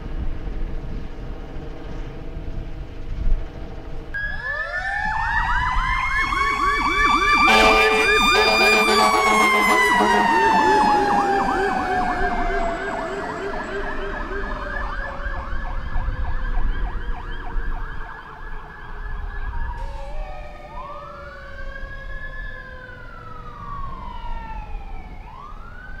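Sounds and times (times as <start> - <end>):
low traffic rumble: 0.0 - 26.0
siren in rapid yelp: 4.2 - 26.0
siren in slow wail: 4.2 - 26.0.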